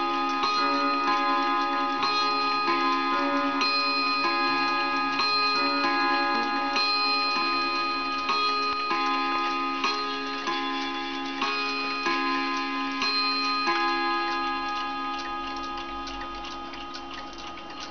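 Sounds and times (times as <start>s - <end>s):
clock ticking: 0.0s - 17.9s
wall clock chiming: 0.0s - 17.9s.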